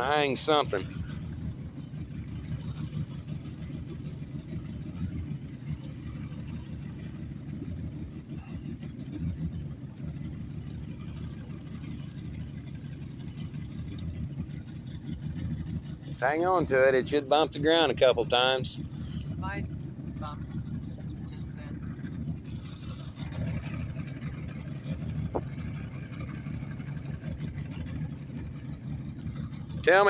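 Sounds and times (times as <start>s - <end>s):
outboard motor rumbling: 0.0s - 30.0s.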